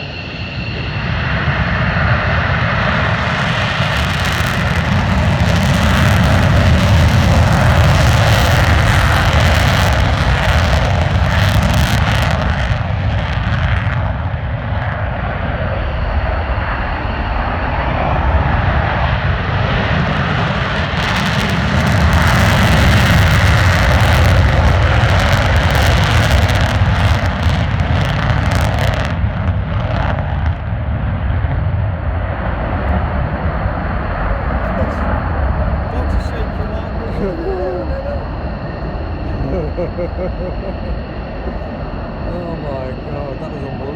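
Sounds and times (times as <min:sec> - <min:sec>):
fighter jet engine roar: 0:00.0 - 0:43.9.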